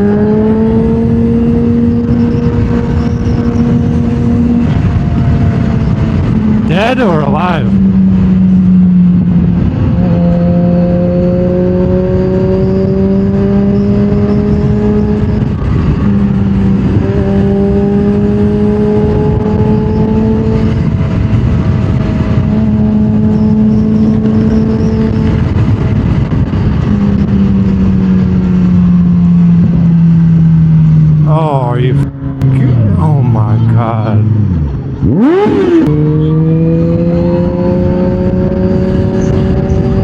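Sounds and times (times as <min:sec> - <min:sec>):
motorcycle engine accelerating: 0:00.0 - 0:40.0
wind noise: 0:00.0 - 0:40.0.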